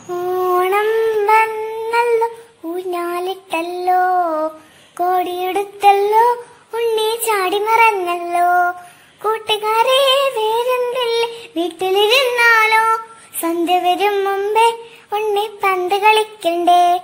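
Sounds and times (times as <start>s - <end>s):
child singing: 0.0s - 17.0s.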